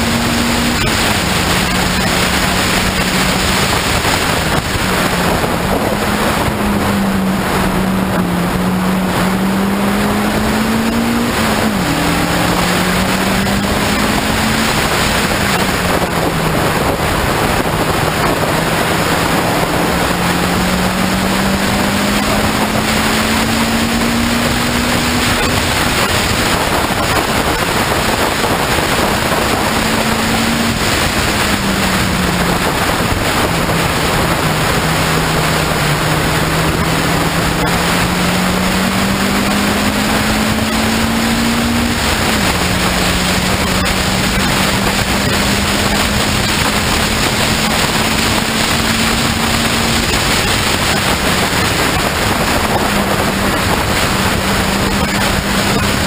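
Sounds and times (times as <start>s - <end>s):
race car engine: 0.0s - 56.0s
wind rush on microphone: 0.0s - 56.0s.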